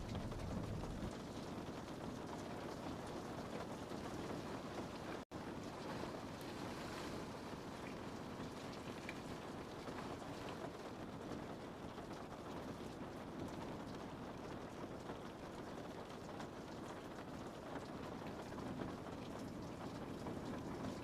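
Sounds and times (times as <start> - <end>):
rain on a window: 0.0 - 21.0.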